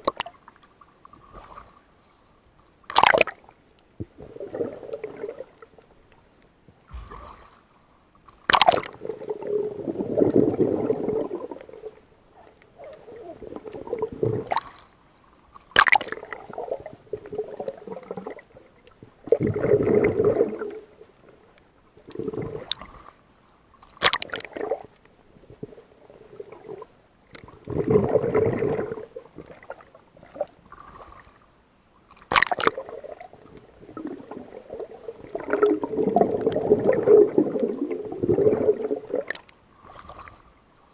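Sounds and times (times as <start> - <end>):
sea water sloshing and gurgling: 0.0 - 40.9.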